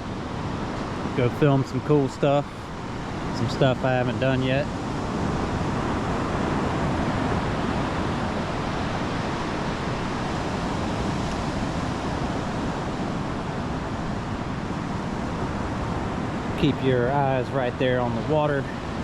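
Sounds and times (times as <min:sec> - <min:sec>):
ocean surf on beach: 0:00.0 - 0:19.0
wind rumbling on microphone: 0:00.0 - 0:19.0.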